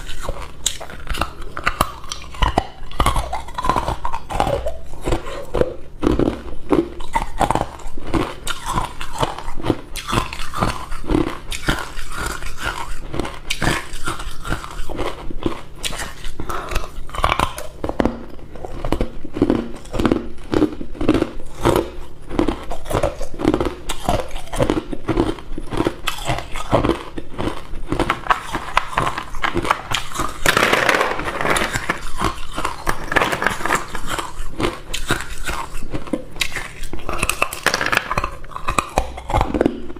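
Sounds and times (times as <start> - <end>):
ice cubes crunched between teeth: 0.0 - 39.9.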